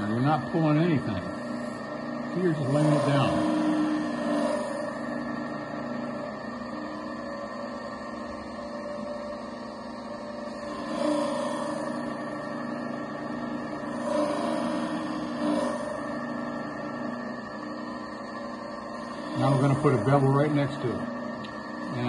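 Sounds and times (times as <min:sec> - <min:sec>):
blade grinding on disc: 0:00.0 - 0:22.0
sharpener humming: 0:00.0 - 0:22.0.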